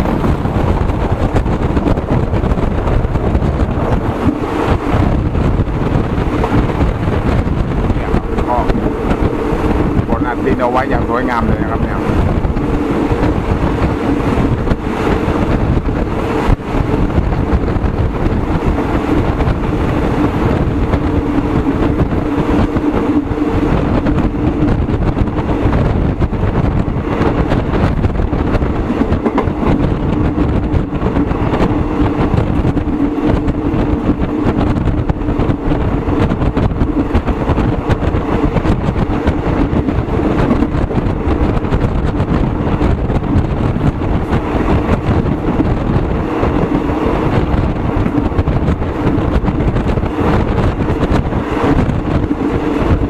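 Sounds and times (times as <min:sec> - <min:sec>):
moving vehicle rumble: 0:00.0 - 0:53.0.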